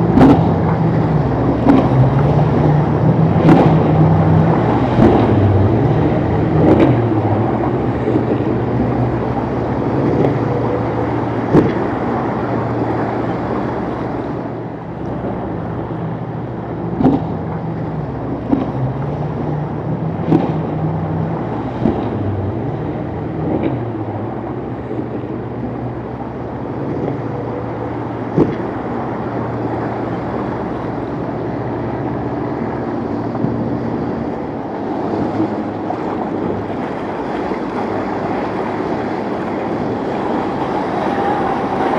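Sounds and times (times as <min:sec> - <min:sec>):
boat engines running: 0:00.0 - 0:41.9
water wash: 0:00.0 - 0:41.9
wind: 0:00.0 - 0:41.9.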